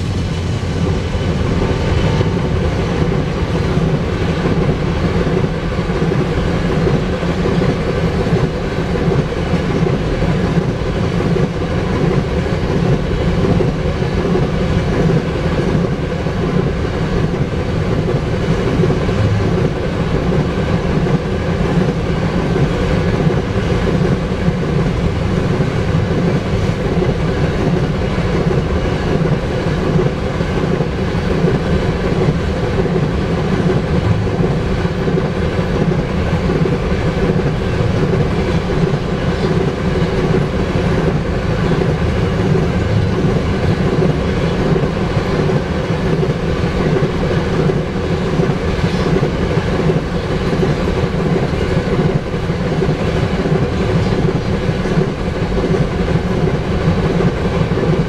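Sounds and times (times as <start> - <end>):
freight train rumble: 0.0 - 58.0
steel wheels clattering on rails: 0.0 - 58.0.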